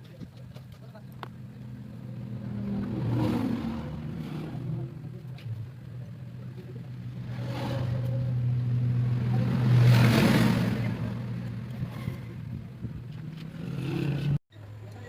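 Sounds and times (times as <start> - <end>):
vehicle passing by: 1.4 - 14.4.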